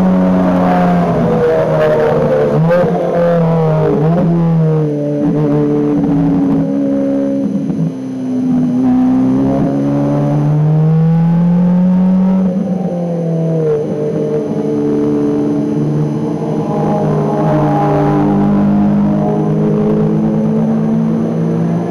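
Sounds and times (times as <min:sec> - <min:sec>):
race car engine revving: 0:00.0 - 0:21.9.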